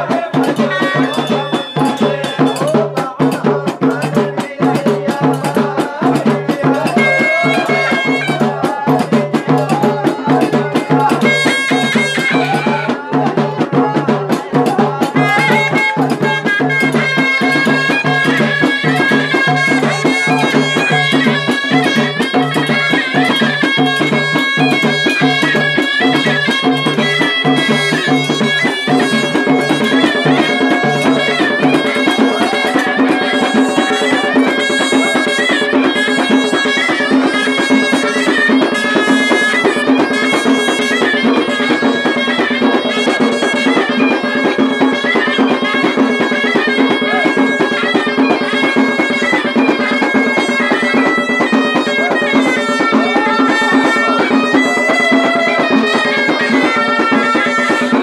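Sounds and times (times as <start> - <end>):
drum beats: 0.0 - 58.0
reedy shawm folk melody: 0.0 - 58.0.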